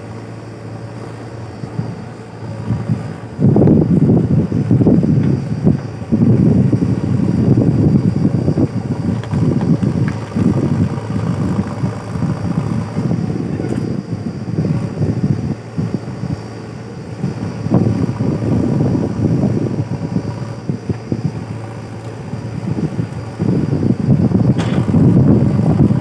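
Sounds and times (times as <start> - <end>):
diesel engine working under load: 0.0 - 26.0.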